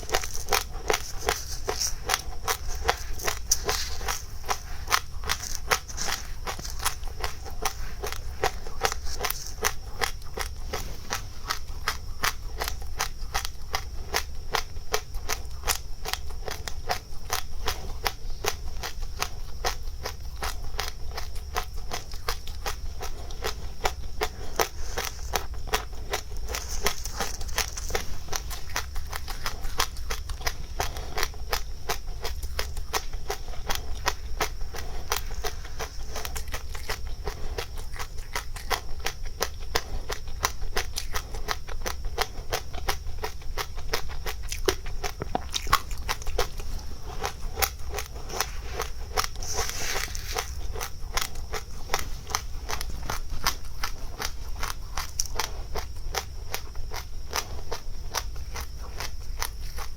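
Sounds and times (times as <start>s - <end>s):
person chewing crunchy seeds: 0.0s - 59.9s.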